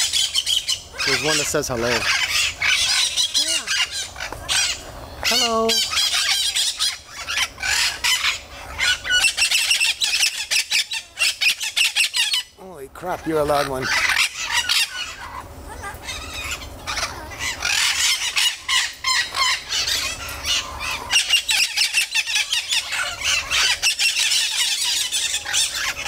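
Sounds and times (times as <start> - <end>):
parrots squawking and screeching: 0.0 - 26.0.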